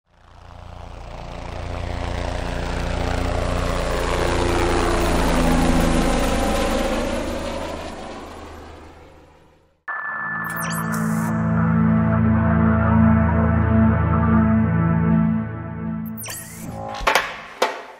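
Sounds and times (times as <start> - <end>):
aircraft engine drone: 0.1 - 17.0.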